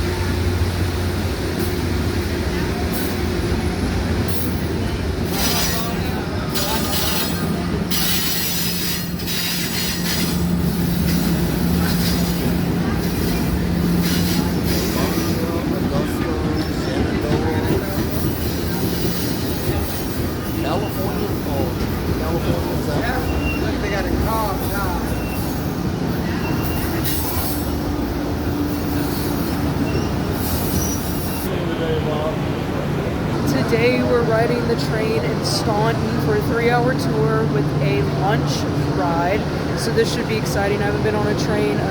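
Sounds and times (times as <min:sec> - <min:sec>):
passenger train running: 0:00.0 - 0:41.9.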